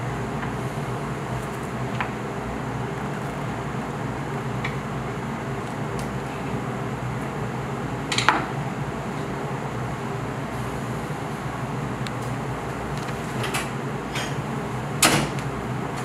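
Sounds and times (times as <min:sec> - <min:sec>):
kitchen ventilation hum: 0:00.0 - 0:16.0.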